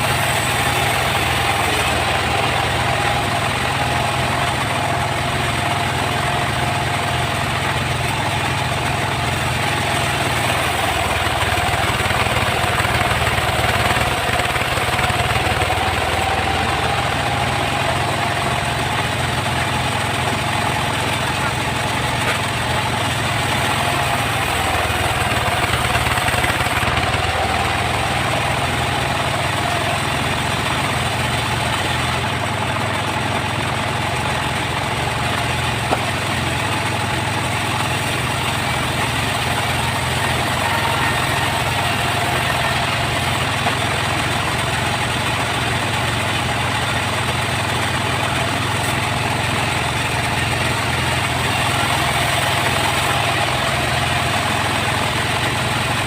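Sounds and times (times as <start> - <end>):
engine-driven sawmill running: 0.0 - 56.0.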